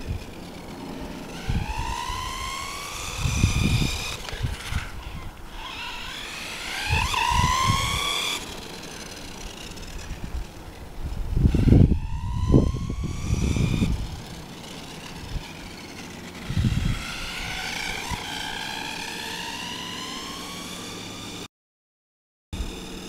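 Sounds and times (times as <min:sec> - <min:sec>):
toy truck motor whining: 0:00.0 - 0:21.5, 0:22.6 - 0:23.0.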